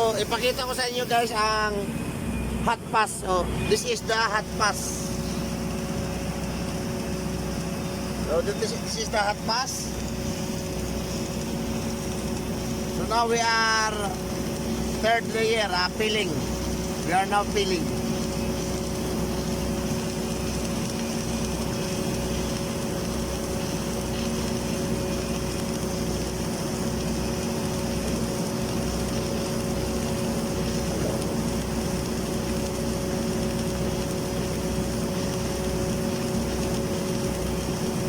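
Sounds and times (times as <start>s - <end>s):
welding rig humming: 0.0s - 38.0s.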